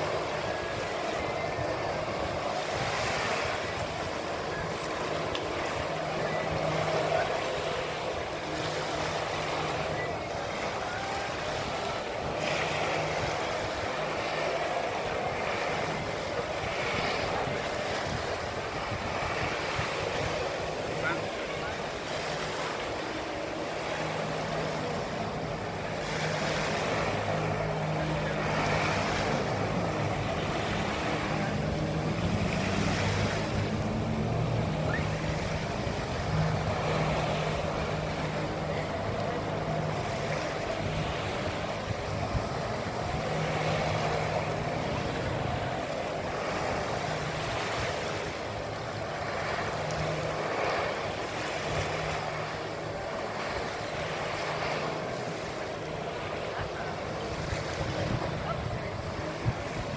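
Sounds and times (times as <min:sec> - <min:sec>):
jet ski engine revving: 0:00.0 - 0:59.9
rushing water jets and spray: 0:00.0 - 0:59.9.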